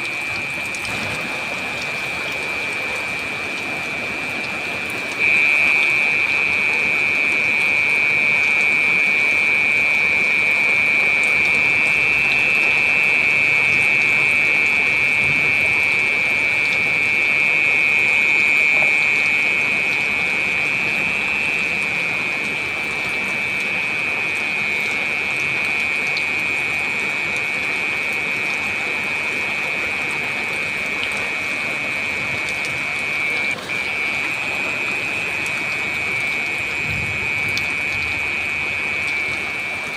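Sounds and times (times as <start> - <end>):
heavy rain falling: 0.0 - 39.9
high-pitched ringing tone: 0.0 - 39.9.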